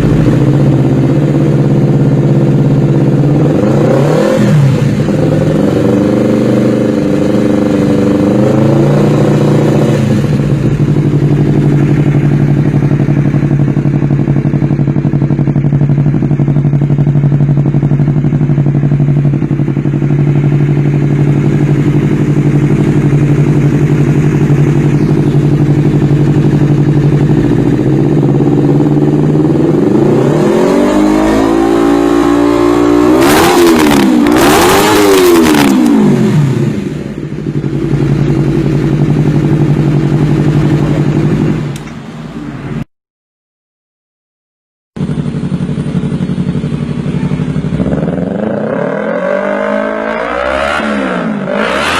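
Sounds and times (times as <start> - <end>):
motorcycle engine idling and revving: 0.0 - 42.9, 45.0 - 51.9.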